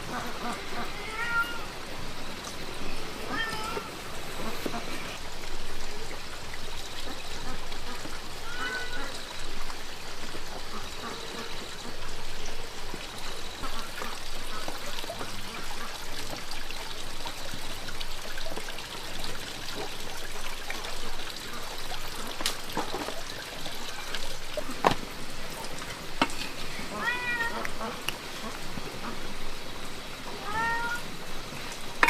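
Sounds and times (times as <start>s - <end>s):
water trickling: 0.0s - 32.0s.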